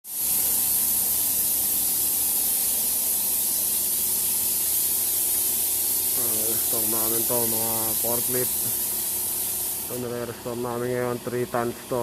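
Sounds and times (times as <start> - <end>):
loud hiss of rushing air: 0.0 - 10.6
faint low machine hum: 0.9 - 9.2, 9.8 - 12.0.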